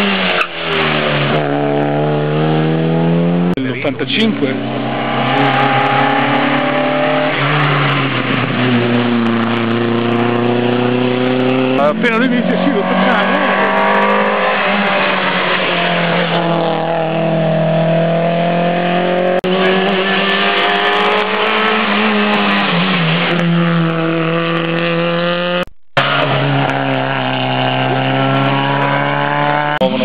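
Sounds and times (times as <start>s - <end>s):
rally cars revving past: 0.0s - 3.6s, 4.3s - 30.0s.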